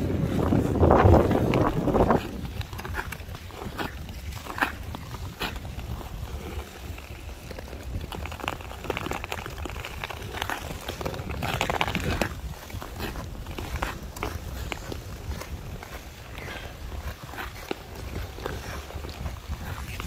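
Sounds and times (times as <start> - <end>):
ice skate blades scraping: 0.0 - 20.0
wind rumble on microphone: 0.0 - 20.0.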